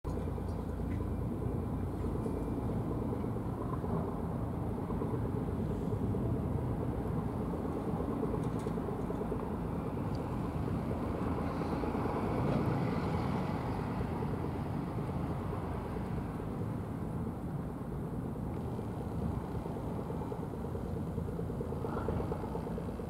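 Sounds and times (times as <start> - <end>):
low outdoor rumble: 0.1 - 23.0.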